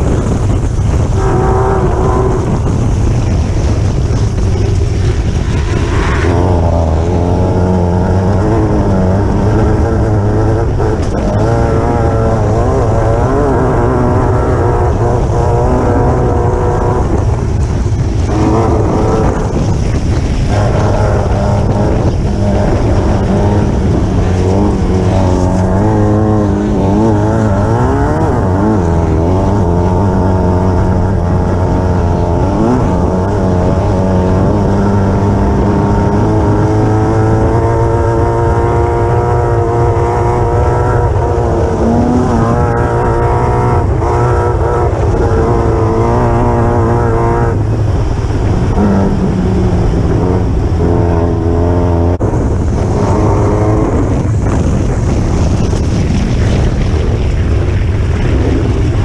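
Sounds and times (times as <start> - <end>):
buggy engine revving: 0.0 - 59.0
low rumble and rushing noise: 0.0 - 59.0.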